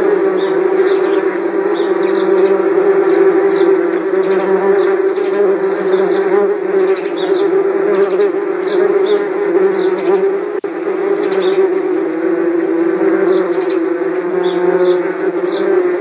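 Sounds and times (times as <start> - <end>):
wasps buzzing: 0.0 - 16.0.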